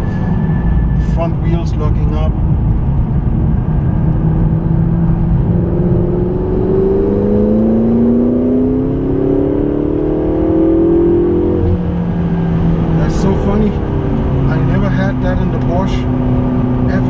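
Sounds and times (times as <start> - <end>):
road and tyre rumble: 0.0 - 17.0
sports car accelerating: 0.0 - 17.0.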